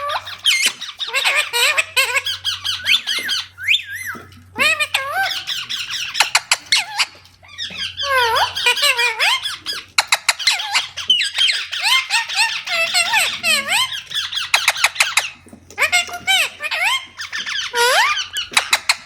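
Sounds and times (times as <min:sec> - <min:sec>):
parrot squeaking and chirping: 0:00.0 - 0:19.0.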